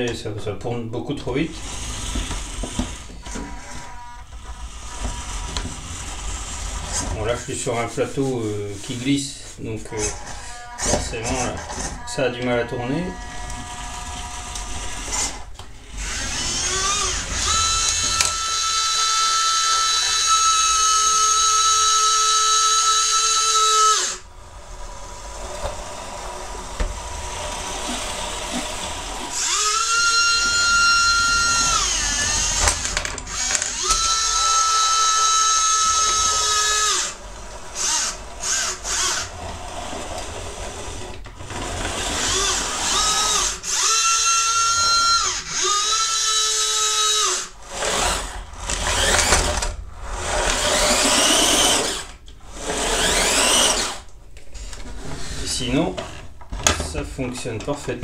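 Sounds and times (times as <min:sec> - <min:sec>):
electric micromotors whining: 0:01.5 - 0:07.9, 0:09.8 - 0:54.1.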